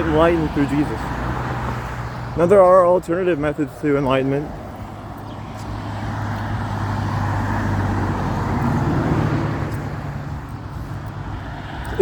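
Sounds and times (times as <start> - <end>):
vehicle passing on road: 0.0 - 12.0.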